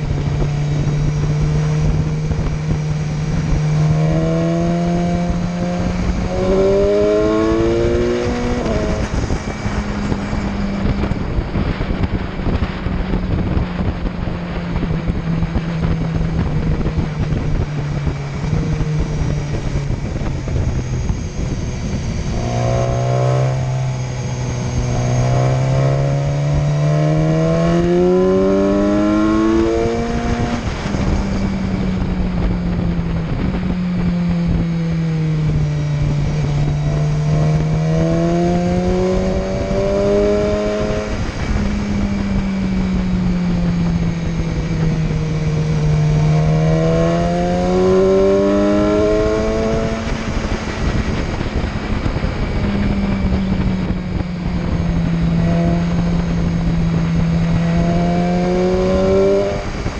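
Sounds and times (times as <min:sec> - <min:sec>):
motorcycle engine revving: 0:00.0 - 0:59.9
wind rushing: 0:00.0 - 0:59.9.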